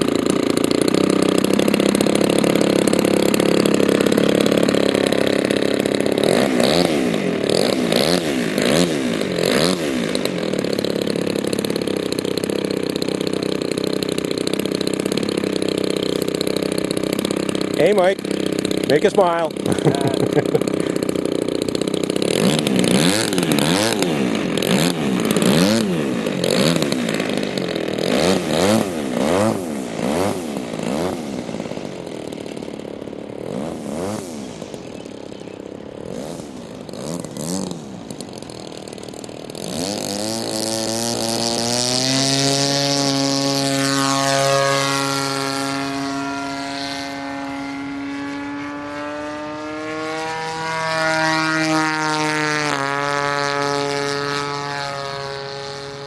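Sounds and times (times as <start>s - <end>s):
model airplane engine revving: 0.0s - 56.0s.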